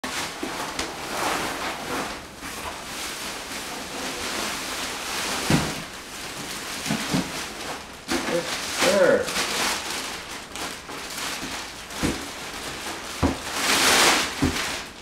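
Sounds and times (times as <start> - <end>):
plastic packaging rustling: 0.0 - 15.0.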